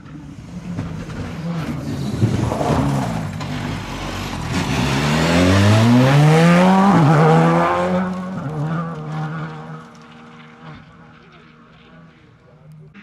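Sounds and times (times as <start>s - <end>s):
car engine accelerating hard: 0.0s - 12.4s
tyres on loose gravel: 0.0s - 13.0s.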